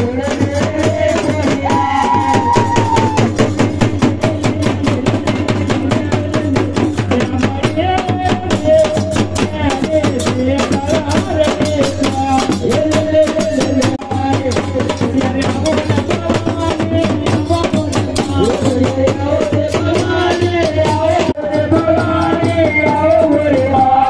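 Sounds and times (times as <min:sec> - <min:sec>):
fast drum beat: 0:00.0 - 0:24.0
man singing into a microphone: 0:00.0 - 0:24.0
rattling hand percussion: 0:00.0 - 0:24.0.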